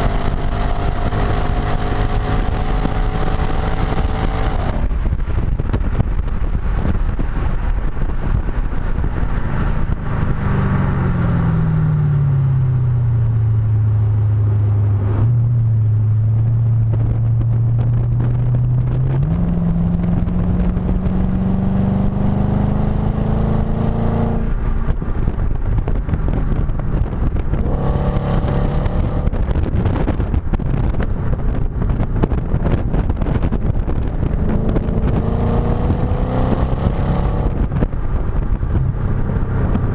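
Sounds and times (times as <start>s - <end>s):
car engine exhaust note: 0.0s - 39.9s
wind buffeting microphone: 0.0s - 39.9s.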